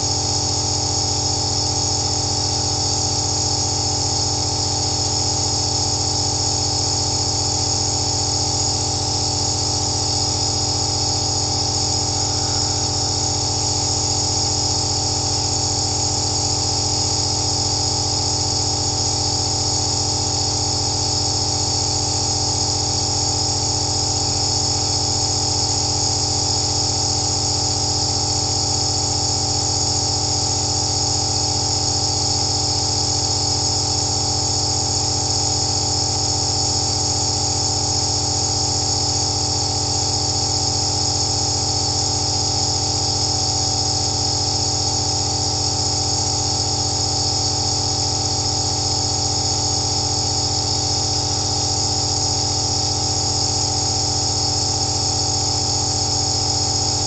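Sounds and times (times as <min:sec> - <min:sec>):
nebulizer compressor humming: 0:00.0 - 0:57.0.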